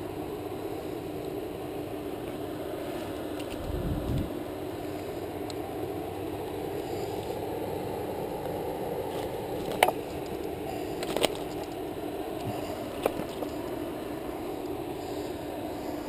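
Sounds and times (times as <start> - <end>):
steady rushing background noise: 0.0 - 16.0.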